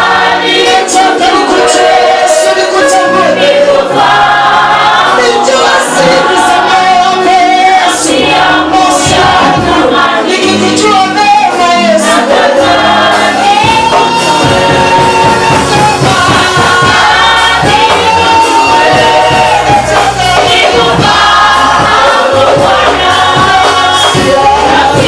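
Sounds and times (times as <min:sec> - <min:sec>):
group singing gospel with band: 0:00.0 - 0:25.0.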